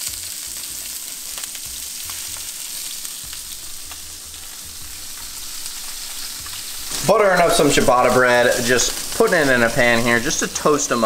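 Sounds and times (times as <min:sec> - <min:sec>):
faint crackles: 0:00.0 - 0:10.7
fish sizzling in a pan: 0:00.0 - 0:11.0.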